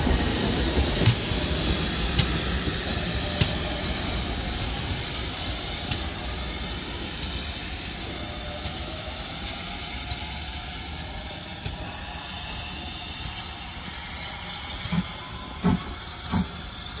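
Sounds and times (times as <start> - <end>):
steam hissing: 0.0 - 17.0
steam locomotive chuffs: 0.0 - 17.0.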